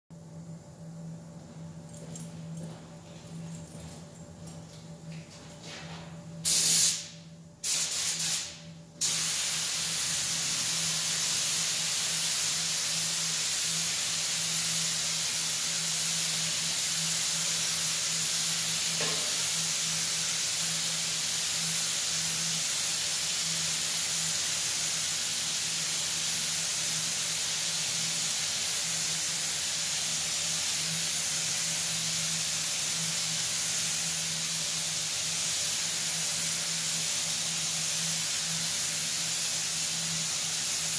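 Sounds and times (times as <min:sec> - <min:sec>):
paint spray gun hissing: 0:06.4 - 0:40.9.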